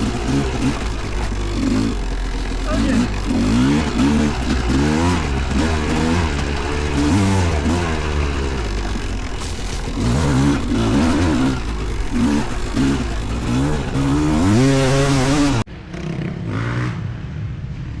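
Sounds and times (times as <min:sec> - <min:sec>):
motocross bike engine revving: 0:00.0 - 0:17.1.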